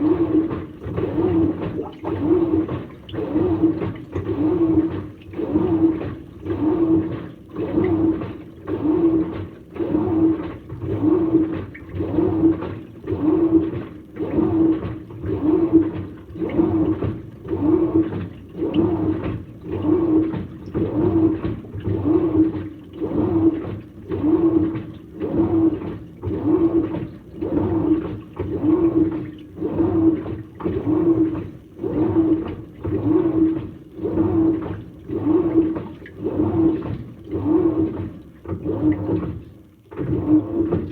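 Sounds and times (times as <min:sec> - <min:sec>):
washing machine motor humming: 0:00.0 - 0:40.9
water swishing in pulses: 0:00.0 - 0:40.9.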